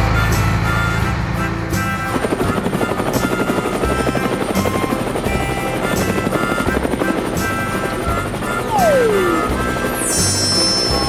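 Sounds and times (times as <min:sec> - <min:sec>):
low truck engine rumble: 0:00.0 - 0:10.0
background music: 0:00.0 - 0:11.0
cartoon helicopter rotor chop: 0:00.0 - 0:11.0.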